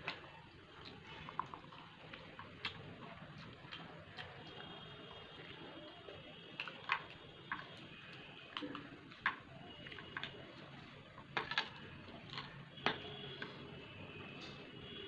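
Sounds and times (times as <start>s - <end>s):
wet chewing clicks: 0.0s - 13.7s.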